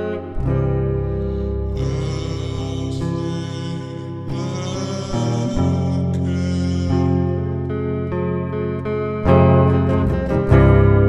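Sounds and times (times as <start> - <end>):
slowed-down song with held chords: 0.0 - 11.0.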